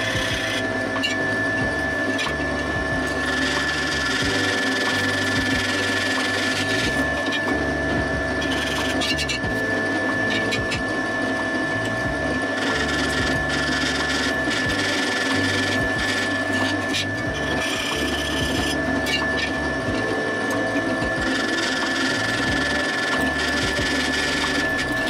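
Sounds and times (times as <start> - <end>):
machine tool whining: 0.0 - 25.0
scratchy cutting noise: 0.0 - 25.0.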